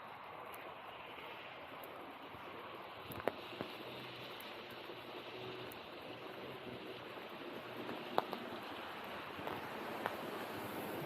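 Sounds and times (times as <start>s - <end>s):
distant traffic hum: 0.0s - 11.0s
steady rain falling: 0.0s - 11.0s.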